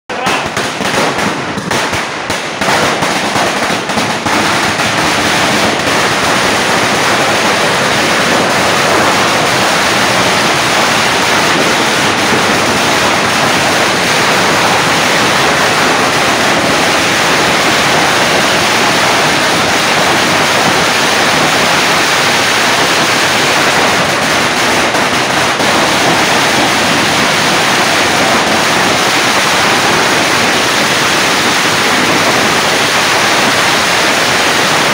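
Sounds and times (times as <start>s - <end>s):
firecrackers crackling: 0.0s - 34.9s.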